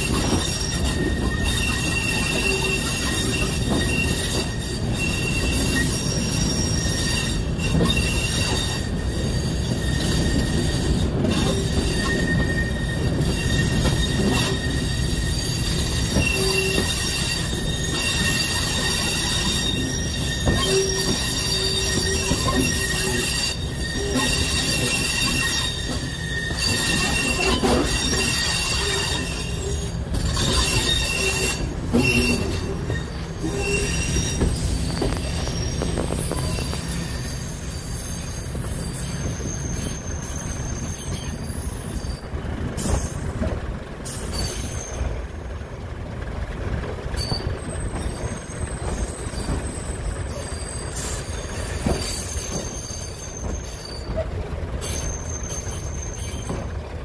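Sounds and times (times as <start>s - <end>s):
wheel squeal: 0.0s - 45.6s, 46.8s - 57.0s
train wheels rumbling on rail: 0.0s - 57.0s.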